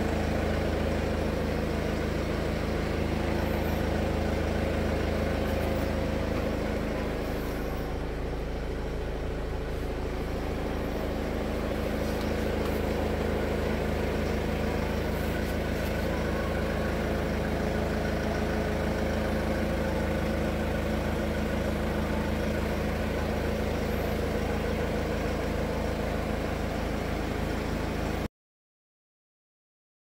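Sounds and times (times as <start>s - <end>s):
car engine idling: 0.0s - 28.3s.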